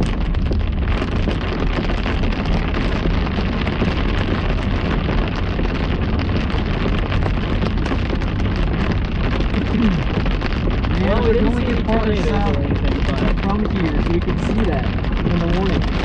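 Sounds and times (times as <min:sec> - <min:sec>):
rain on car roof: 0:00.0 - 0:16.0
road and wind rumble: 0:00.0 - 0:16.0.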